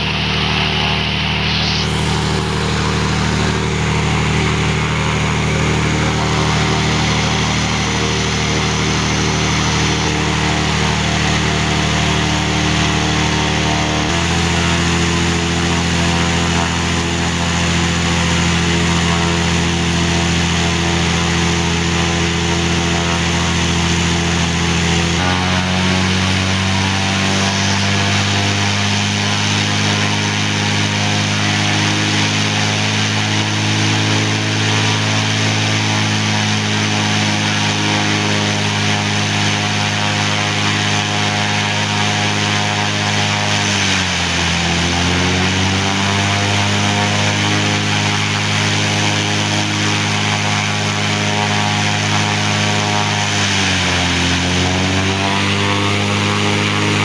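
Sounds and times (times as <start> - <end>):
piston aircraft engine and propeller: 0.0 - 57.0.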